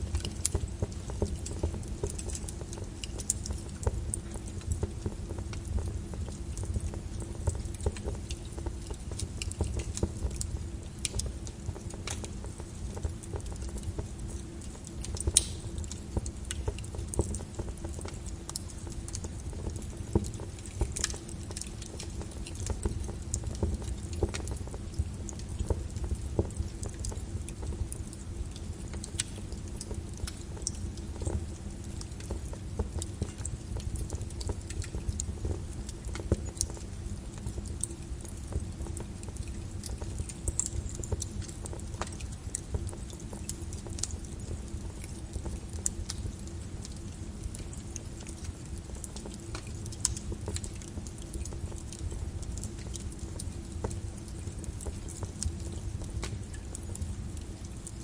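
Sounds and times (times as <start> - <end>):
lava crackling and popping: 0.0 - 58.0.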